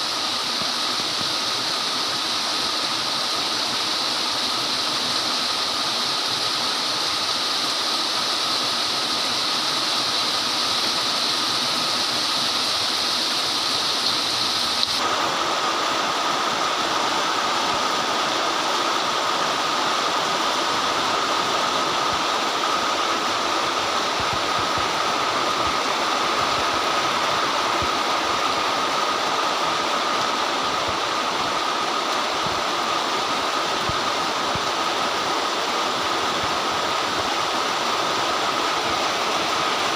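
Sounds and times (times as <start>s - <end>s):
torrential rain hissing: 0.0s - 39.9s.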